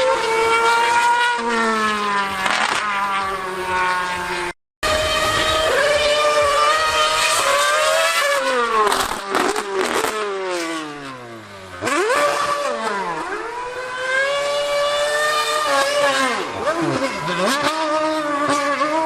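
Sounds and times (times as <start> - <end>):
racing engine revving: 0.0 - 19.0.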